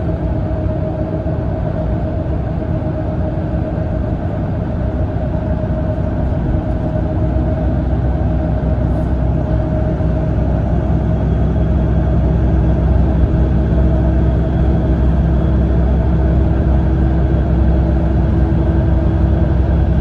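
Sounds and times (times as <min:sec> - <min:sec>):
coach engine and road rumble: 0:00.0 - 0:20.0
mid-pitched whine: 0:00.0 - 0:20.0.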